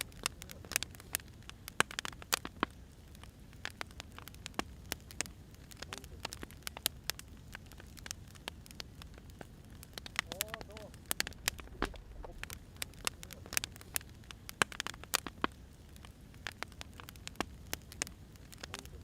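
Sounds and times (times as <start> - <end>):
fire low rumble: 0.0 - 19.0
firewood crackling and popping: 0.0 - 19.0.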